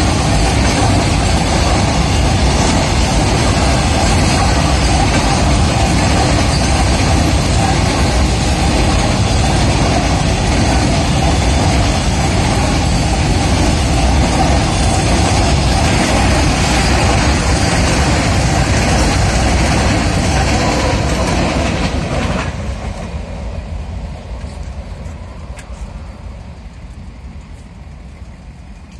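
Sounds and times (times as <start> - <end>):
train wheels on rails: 0.0 - 28.9.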